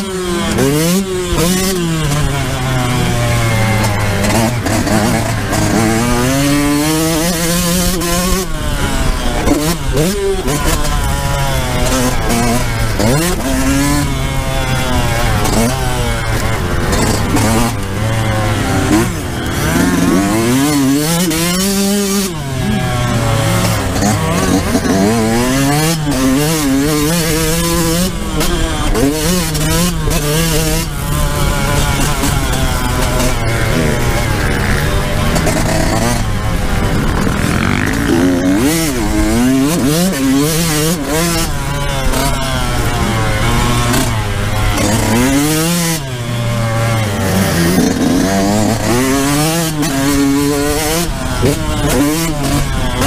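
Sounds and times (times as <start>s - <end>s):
motorcycle engine revving hard: 0.0s - 53.0s.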